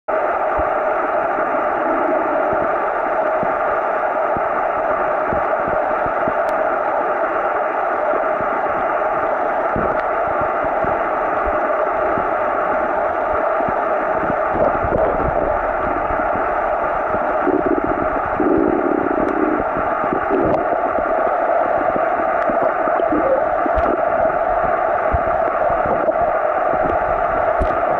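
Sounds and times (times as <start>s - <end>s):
muffled underwater hiss and rumble: 0.1s - 27.9s.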